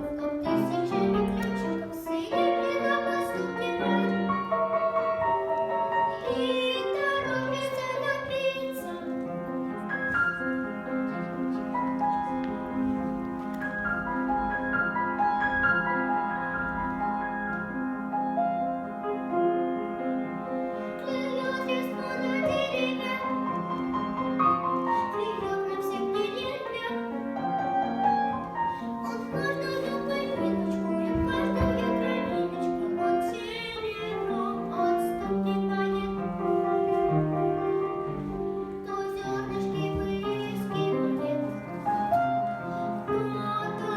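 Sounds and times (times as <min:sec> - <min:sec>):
girl singing: 0:00.0 - 0:12.4, 0:20.8 - 0:43.9
piano accompaniment: 0:00.0 - 0:43.9.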